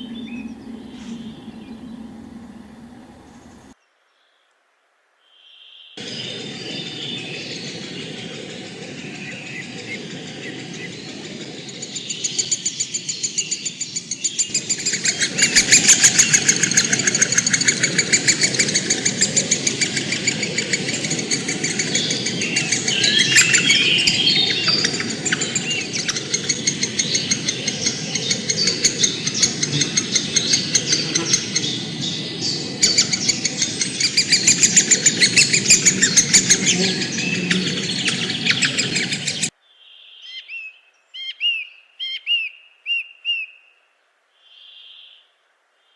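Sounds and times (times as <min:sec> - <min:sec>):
birds chirping in chorus: 0:00.0 - 0:03.8, 0:06.0 - 0:43.5.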